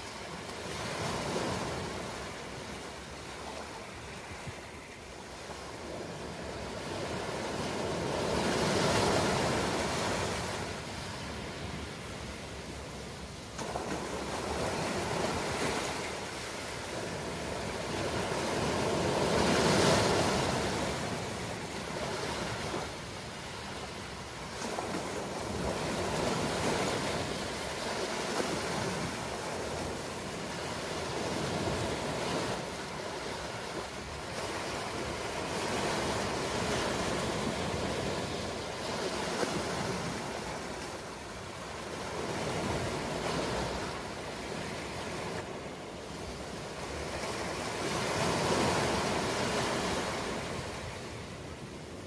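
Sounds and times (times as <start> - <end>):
ocean waves washing ashore: 0.0 - 52.0.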